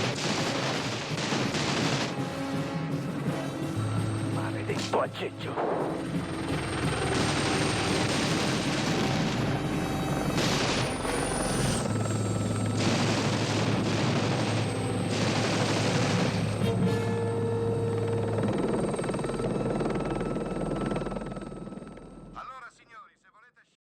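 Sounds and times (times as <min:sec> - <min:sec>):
film music: 0:00.0 - 0:22.4
helicopter rotor and engine: 0:00.0 - 0:22.4.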